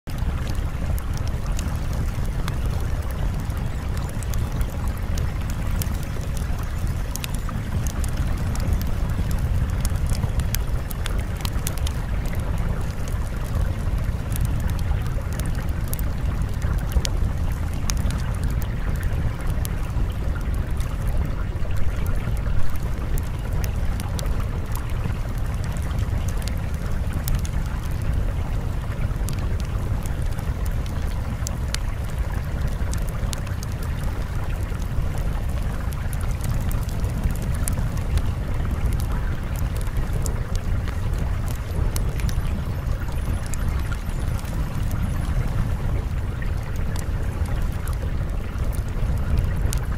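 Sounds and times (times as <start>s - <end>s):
rushing water: 0.1s - 49.9s
sharp crackles: 0.1s - 49.9s.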